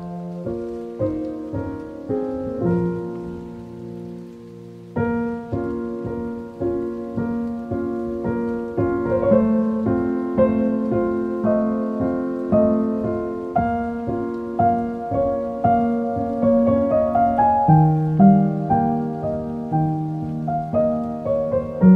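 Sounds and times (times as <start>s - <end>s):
solo piano music: 0.0s - 21.9s.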